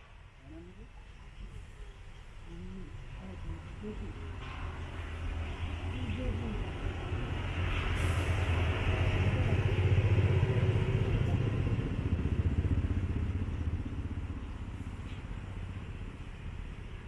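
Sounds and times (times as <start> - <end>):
passing vehicle engine rumble: 0.5 - 17.0.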